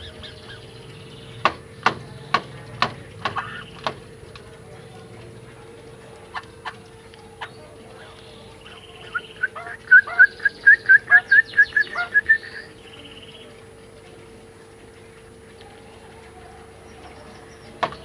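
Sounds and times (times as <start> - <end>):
songbird calling: 0.0 - 14.0, 15.0 - 18.0.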